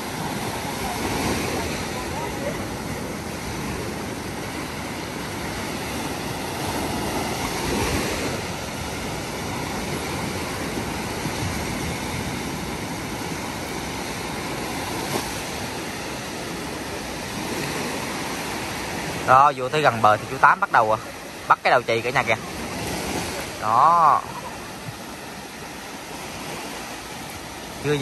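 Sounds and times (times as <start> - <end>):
wind on microphone: 0.0 - 19.3, 22.2 - 28.0
surf washing onto beach: 0.0 - 28.0.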